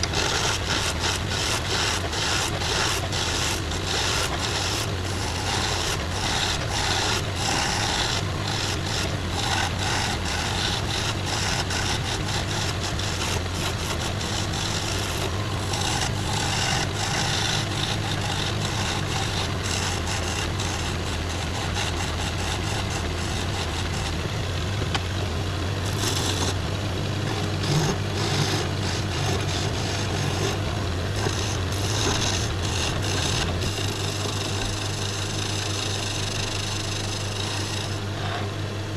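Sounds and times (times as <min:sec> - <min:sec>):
chisel scraping spinning wood: 0:00.0 - 0:38.9
lathe motor humming: 0:00.0 - 0:38.9.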